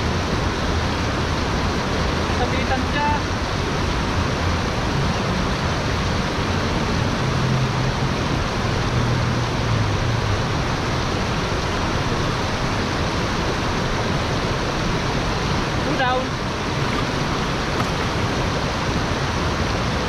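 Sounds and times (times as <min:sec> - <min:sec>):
stream water tumbling over rocks: 0:00.0 - 0:20.0.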